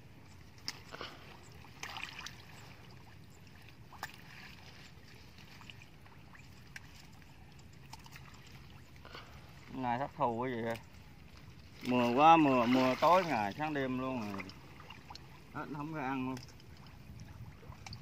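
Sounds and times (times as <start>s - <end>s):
water sloshing around wader: 0.0s - 18.0s
sharp water splashes: 0.5s - 9.7s, 11.6s - 18.0s.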